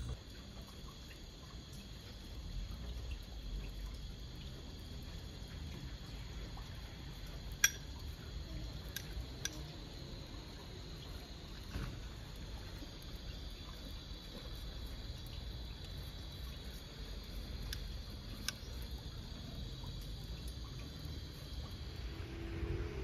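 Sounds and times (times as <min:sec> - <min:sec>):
rain and sleet dripping: 0:00.0 - 0:23.0.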